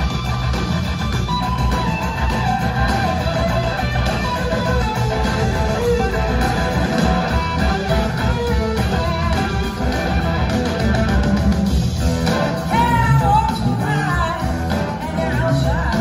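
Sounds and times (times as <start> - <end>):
blues-rock band playing: 0.0 - 16.0
wavering lead guitar line: 0.0 - 16.0.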